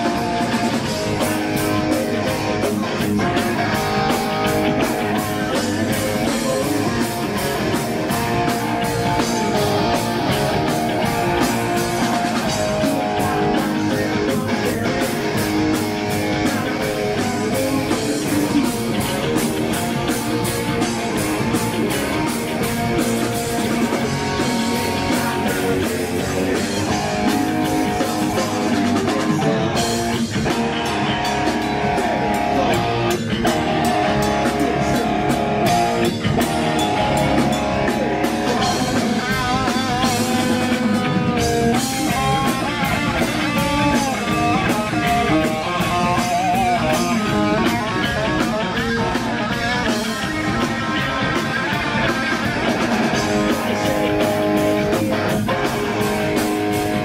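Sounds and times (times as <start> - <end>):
distorted electric guitars: 0.0 - 57.0
drum kit: 0.0 - 57.0
wavering lead guitar line: 0.0 - 57.0.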